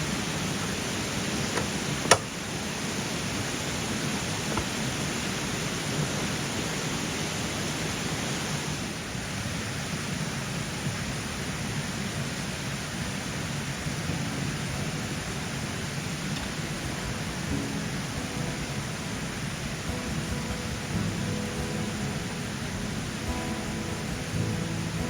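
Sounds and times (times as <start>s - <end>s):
mountain stream flowing: 0.0s - 25.0s.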